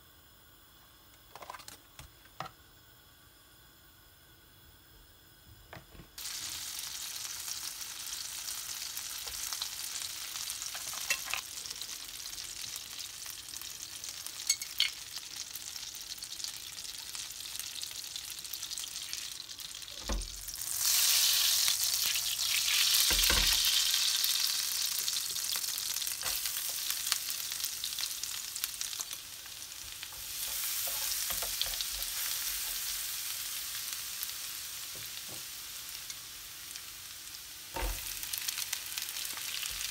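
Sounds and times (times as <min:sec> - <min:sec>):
butter sizzling in a frying pan: 0:06.2 - 0:39.9.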